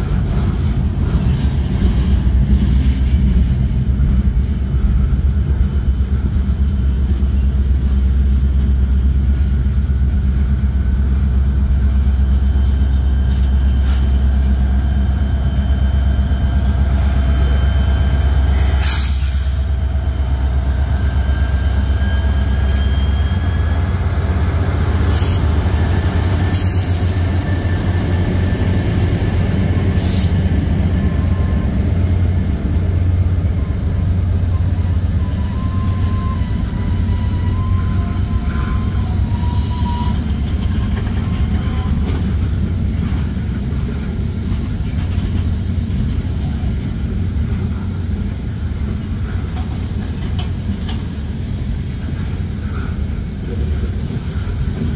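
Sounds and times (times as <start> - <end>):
diesel locomotive engine drone: 0.0 - 54.9
train wheels rumbling on rails: 0.0 - 54.9.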